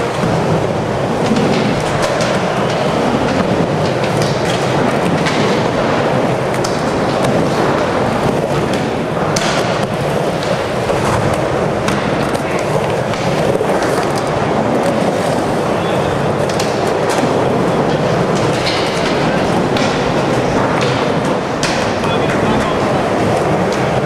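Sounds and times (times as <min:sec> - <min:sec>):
skateboard clacks and knocks: 0:00.0 - 0:24.0
skateboard wheels rolling: 0:00.0 - 0:24.0.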